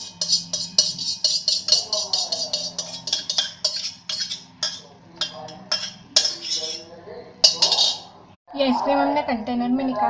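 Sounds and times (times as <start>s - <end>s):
metal spoon scraping steel jar: 0.0s - 8.1s.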